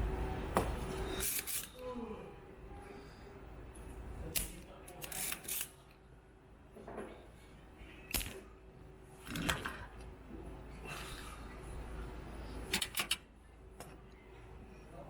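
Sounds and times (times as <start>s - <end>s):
faint steady hum: 0.0s - 5.0s, 5.6s - 15.0s.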